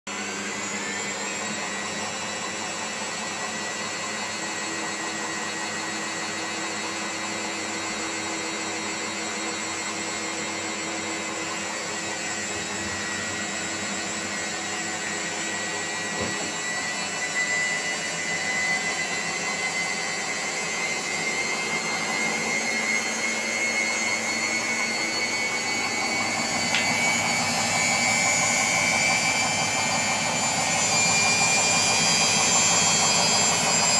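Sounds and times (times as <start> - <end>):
washing machine spinning: 0.1 - 33.9.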